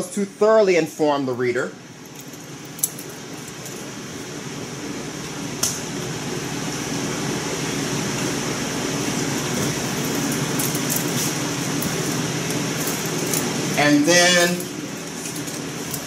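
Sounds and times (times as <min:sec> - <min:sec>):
fan-like hum and hiss: 0:00.0 - 0:16.0.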